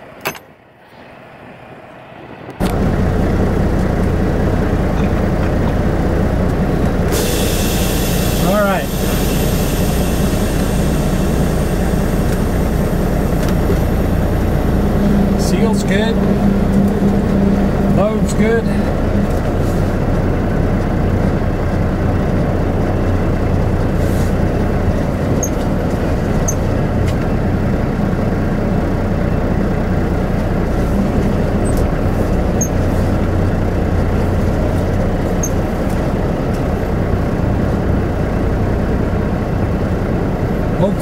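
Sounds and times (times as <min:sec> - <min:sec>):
diesel truck engine running: 0:02.3 - 0:41.0.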